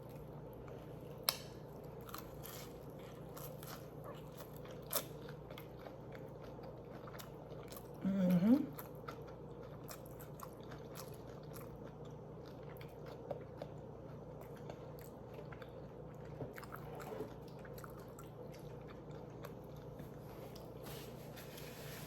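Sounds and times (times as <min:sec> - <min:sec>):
person chewing: 0:00.0 - 0:08.0, 0:08.7 - 0:20.8.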